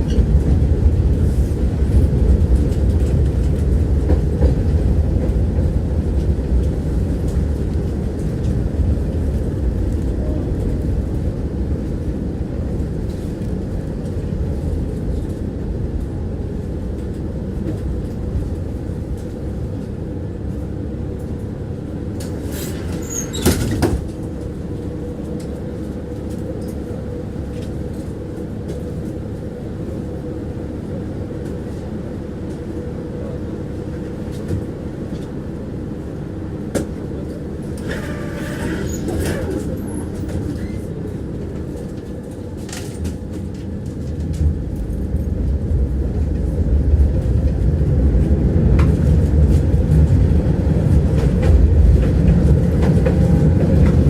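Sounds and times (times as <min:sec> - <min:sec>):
tram rumble and wheel clatter: 0:00.0 - 0:54.0.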